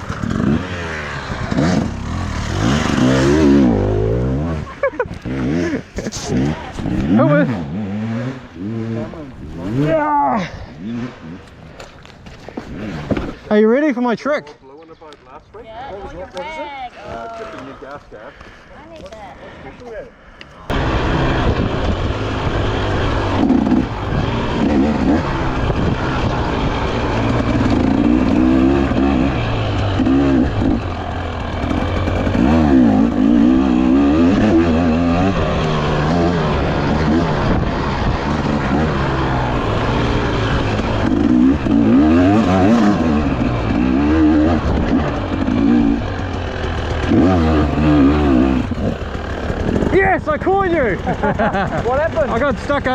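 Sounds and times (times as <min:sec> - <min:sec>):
dirt bike engine revving: 0:00.0 - 0:13.5, 0:20.7 - 0:52.9.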